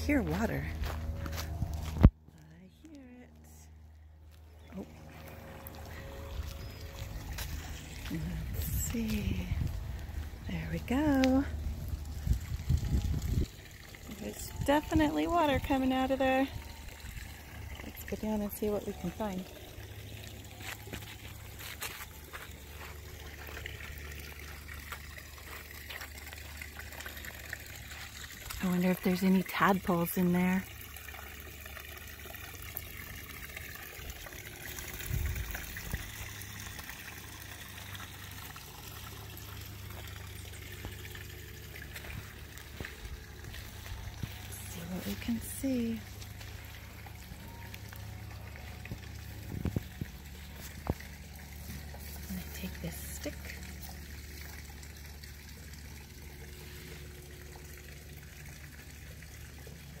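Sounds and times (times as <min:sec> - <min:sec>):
creek water trickling: 0:00.0 - 1:00.0.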